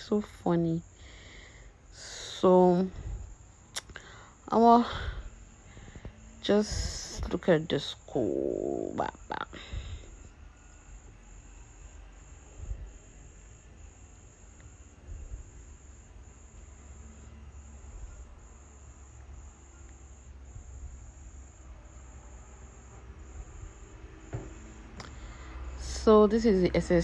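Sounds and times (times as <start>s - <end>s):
cricket chirping: 0.0s - 27.0s
low rumbling background noise: 0.0s - 27.0s.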